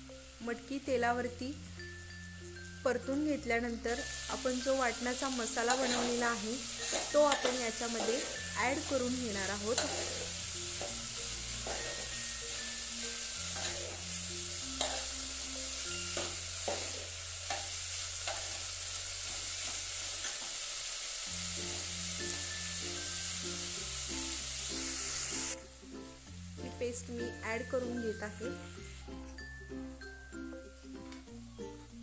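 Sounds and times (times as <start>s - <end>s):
beans sizzling in oil: 0.0s - 32.0s.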